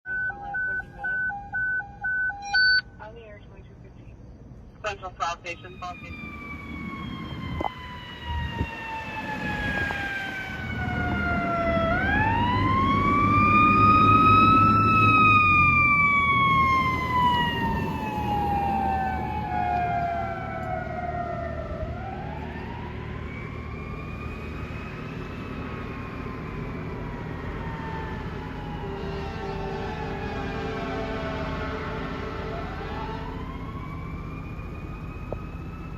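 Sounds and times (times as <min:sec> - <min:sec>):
fire engine siren wailing: 0:00.1 - 0:02.8, 0:05.4 - 0:35.9.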